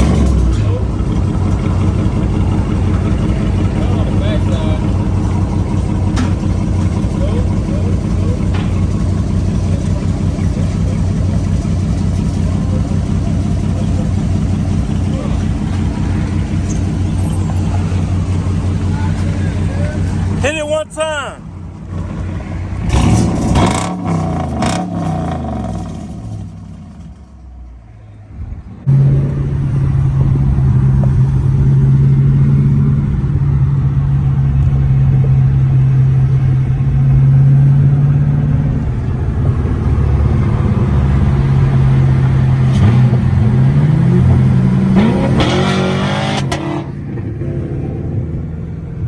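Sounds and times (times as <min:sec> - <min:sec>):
car engine revving: 0:00.0 - 0:20.7, 0:21.4 - 0:49.0.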